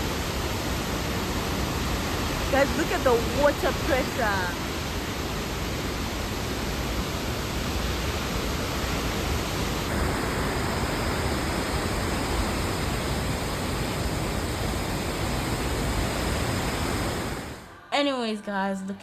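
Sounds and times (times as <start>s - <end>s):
rush of falling water: 0.0s - 17.6s.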